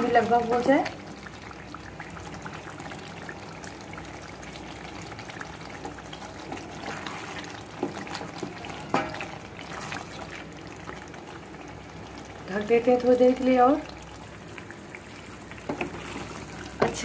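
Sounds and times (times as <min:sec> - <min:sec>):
gravy bubbling in a pan: 0:00.0 - 0:17.0.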